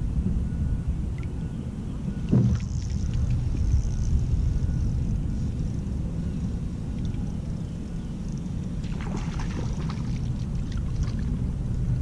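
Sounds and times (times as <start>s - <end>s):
low rumble on microphone: 0.0s - 12.0s.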